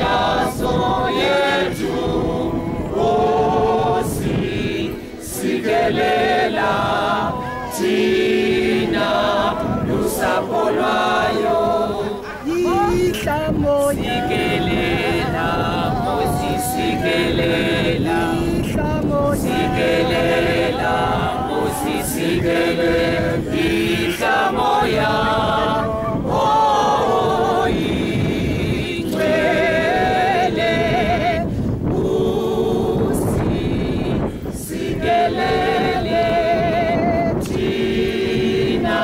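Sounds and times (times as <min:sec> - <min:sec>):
crowd singing unaccompanied: 0:00.0 - 0:39.0.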